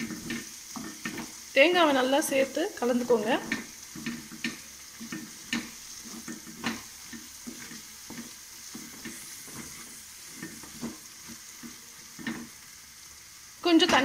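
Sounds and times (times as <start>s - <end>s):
wooden spatula scraping metal pan: 0.0s - 1.5s, 2.2s - 12.6s
paste sizzling: 0.0s - 14.0s.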